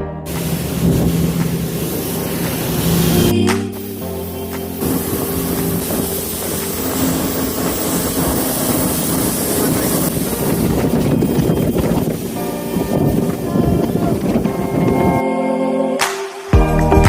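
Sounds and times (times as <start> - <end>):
boat engine running: 0.0 - 15.2
wind buffeting microphone: 0.3 - 3.8, 4.8 - 15.2.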